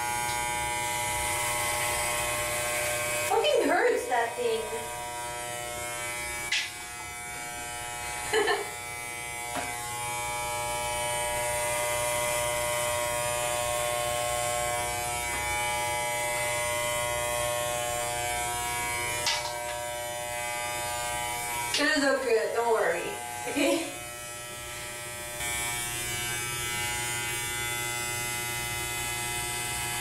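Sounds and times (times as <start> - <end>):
electric hair clipper buzzing: 0.0 - 30.0.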